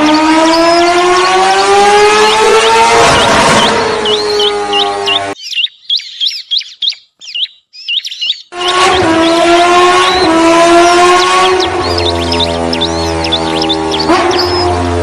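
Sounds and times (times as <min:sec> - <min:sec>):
rapid high bird-like chirps: 0:00.0 - 0:15.0.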